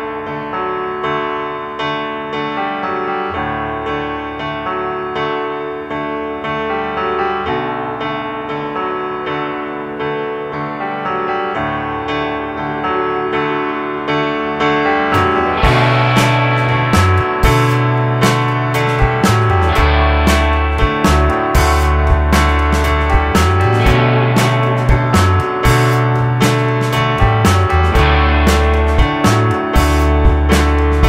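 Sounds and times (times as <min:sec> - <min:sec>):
keyboard playing notes: 0:00.0 - 0:31.0.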